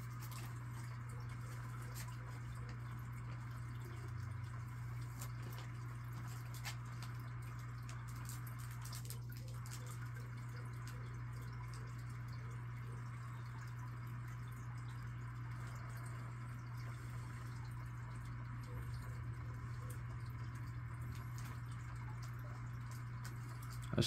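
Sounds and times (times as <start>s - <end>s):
faint ticks or drips: 0.0s - 24.0s
low electrical hum: 0.0s - 24.0s.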